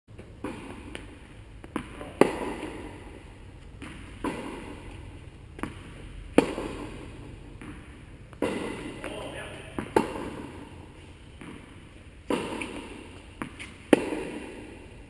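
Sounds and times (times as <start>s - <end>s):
racquets striking tennis ball: 0.1s - 15.0s
ball bouncing on court: 0.2s - 15.0s.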